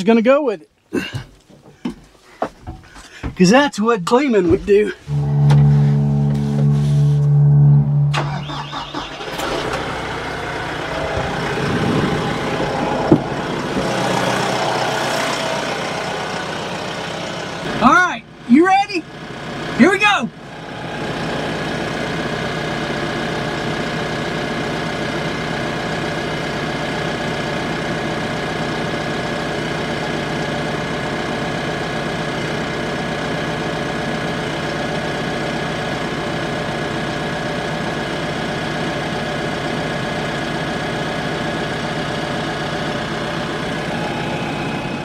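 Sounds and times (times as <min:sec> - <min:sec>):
tractor engine idling: 0:01.0 - 0:45.0.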